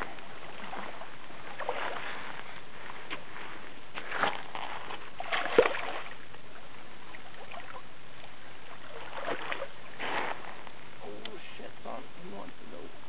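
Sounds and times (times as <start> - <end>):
water splashing: 0.0 - 12.8.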